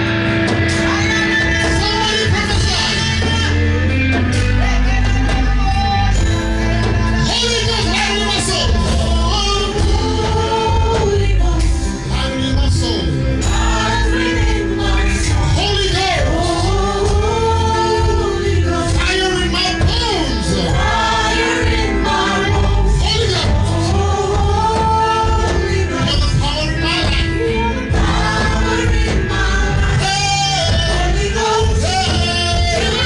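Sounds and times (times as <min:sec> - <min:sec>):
band with bass and keyboard: 0:00.0 - 0:33.0
voices singing gospel: 0:00.0 - 0:33.0.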